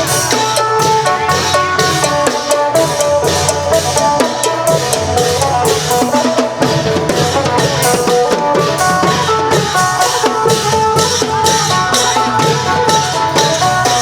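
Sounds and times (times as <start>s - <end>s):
drum strikes: 0.0s - 14.0s.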